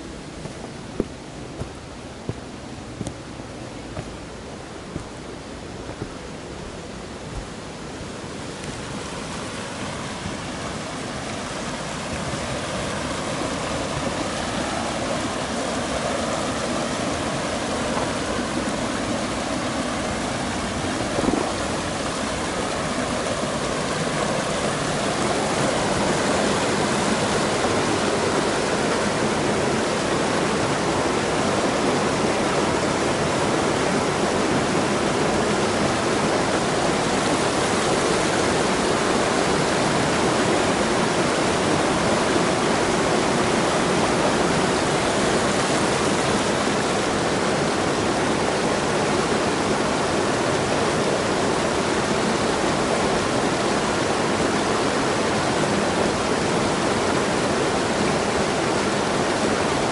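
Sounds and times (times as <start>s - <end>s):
river rushing over rapids: 0.0s - 59.9s.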